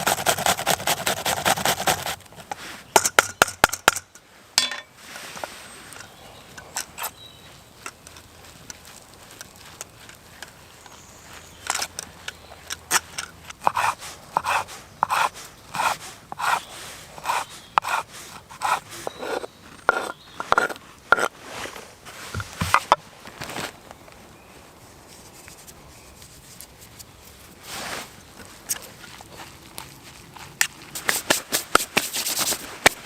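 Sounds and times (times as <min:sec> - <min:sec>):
hand tool scraping wood: 0:00.0 - 0:02.9, 0:07.8 - 0:23.7, 0:25.1 - 0:33.0.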